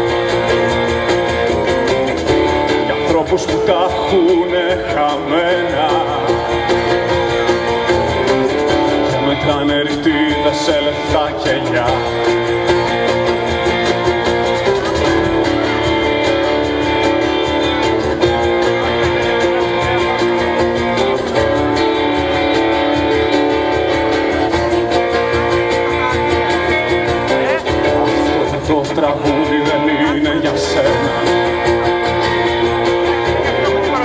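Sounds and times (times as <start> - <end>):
drums steady beat: 0.0 - 34.0
strummed guitars: 0.0 - 34.0.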